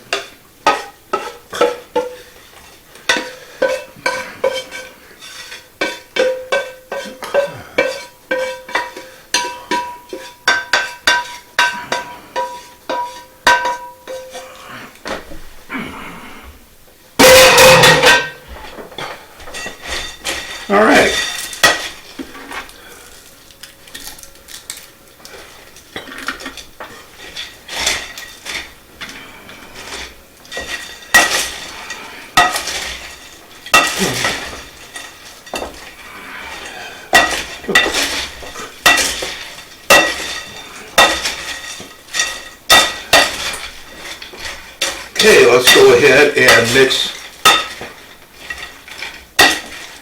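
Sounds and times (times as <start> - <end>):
metal utensil scraping a pan: 0.0 - 15.6, 17.2 - 50.0.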